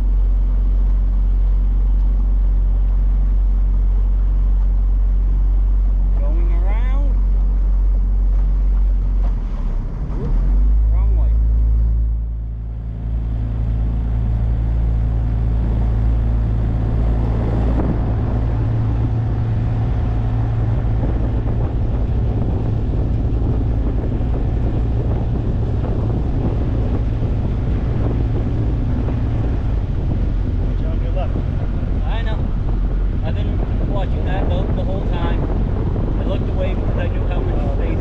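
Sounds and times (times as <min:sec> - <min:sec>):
motorboat engine running: 0:00.0 - 0:38.0
water rushing along hull: 0:00.0 - 0:38.0
wind on microphone: 0:00.0 - 0:38.0.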